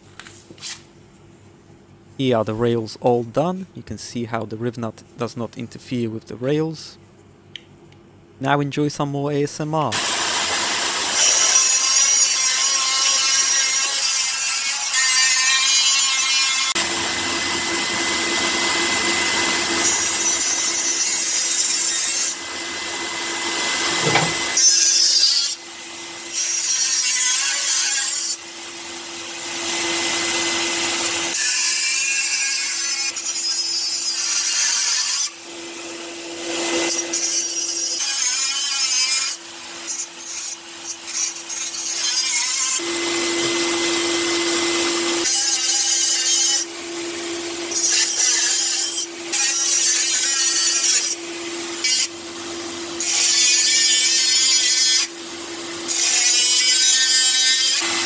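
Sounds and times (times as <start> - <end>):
power tool working metal: 9.9 - 58.0.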